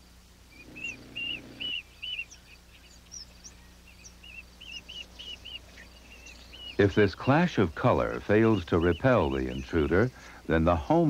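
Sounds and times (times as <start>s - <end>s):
small bird chirping: 0.0s - 10.5s.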